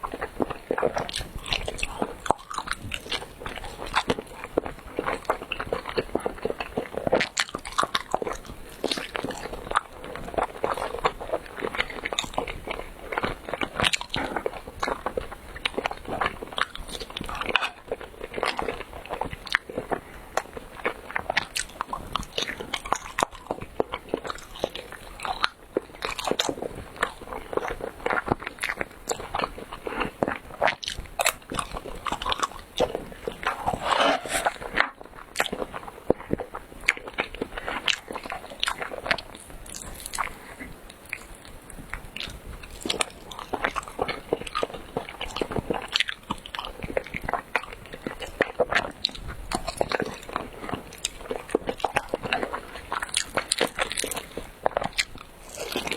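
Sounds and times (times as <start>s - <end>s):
chewing sticky food: 0.0s - 55.9s.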